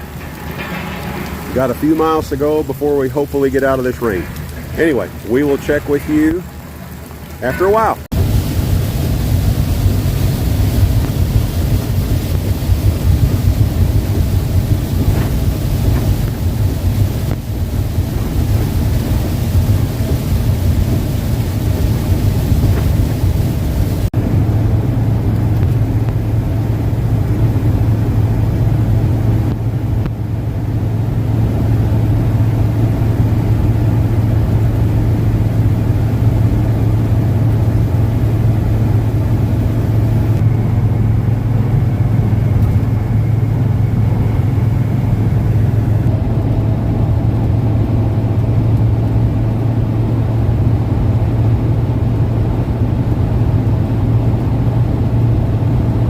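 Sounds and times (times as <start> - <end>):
road and engine drone: 0.0 - 56.0
wind and rain hiss: 0.0 - 56.0.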